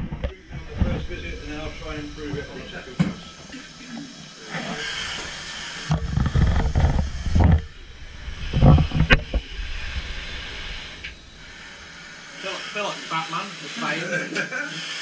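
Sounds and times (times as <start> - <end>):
heavy breaths through mask valves: 0.8 - 15.0.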